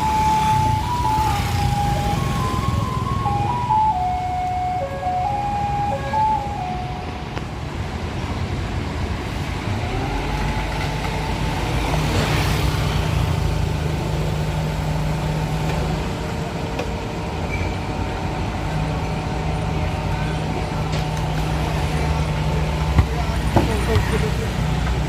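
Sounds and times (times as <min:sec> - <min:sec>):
garbage truck engine hum: 0:00.0 - 0:25.0.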